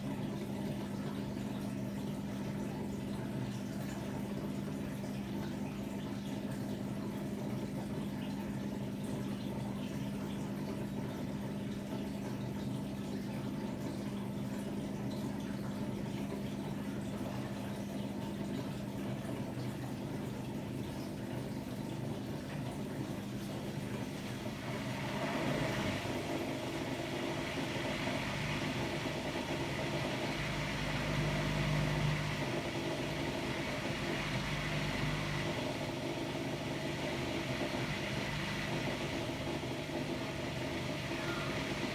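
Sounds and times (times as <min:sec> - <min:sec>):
washer-dryer humming: 0:00.0 - 0:41.9.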